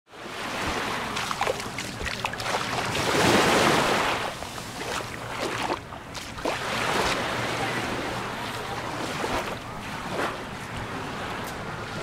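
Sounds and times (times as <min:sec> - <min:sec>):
waves washing onto pebbly shore: 0:00.3 - 0:10.4.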